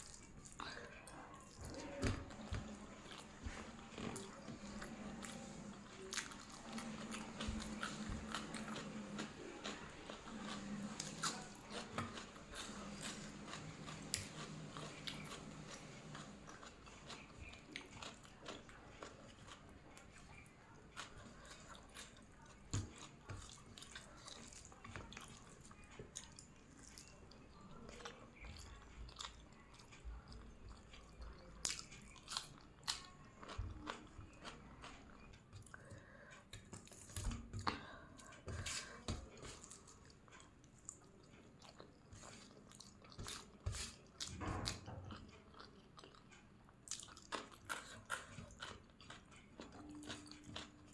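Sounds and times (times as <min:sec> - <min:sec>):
person chewing food: 0:00.0 - 0:50.9.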